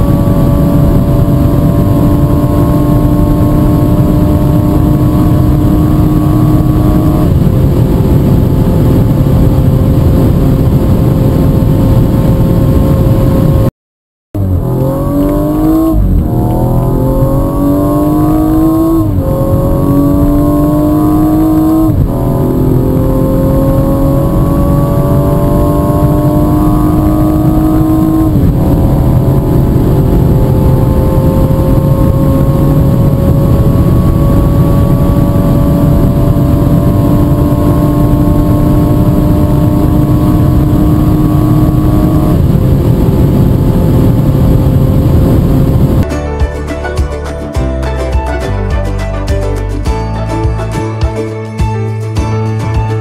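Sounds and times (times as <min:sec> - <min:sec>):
car engine at full throttle: 0:00.0 - 0:13.7, 0:14.3 - 0:46.1.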